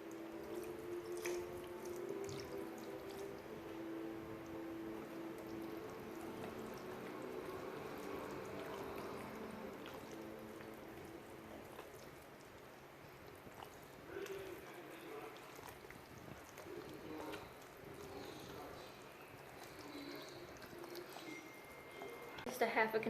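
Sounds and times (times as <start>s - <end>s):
liquid pouring into a bowl: 0.0s - 22.5s.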